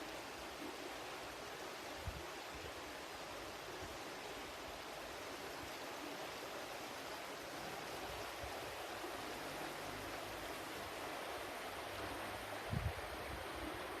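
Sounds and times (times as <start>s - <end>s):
flowing water: 0.0s - 14.0s.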